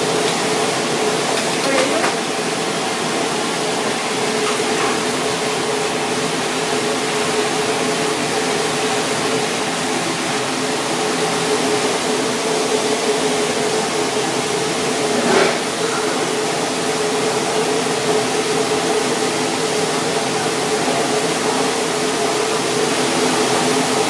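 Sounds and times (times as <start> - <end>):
rushing kitchen noise: 0.0 - 24.0.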